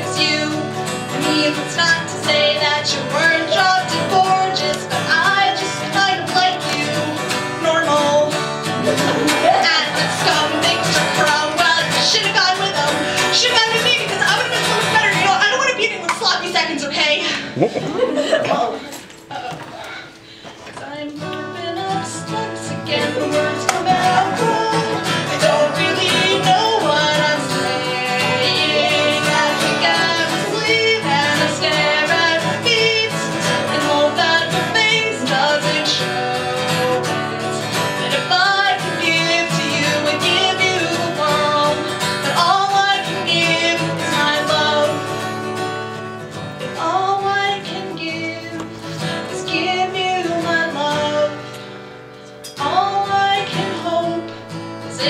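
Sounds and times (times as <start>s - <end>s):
person singing: 0.0s - 15.5s, 17.2s - 20.2s, 20.8s - 45.4s, 46.7s - 51.6s, 52.4s - 55.0s
guitar: 0.0s - 55.0s.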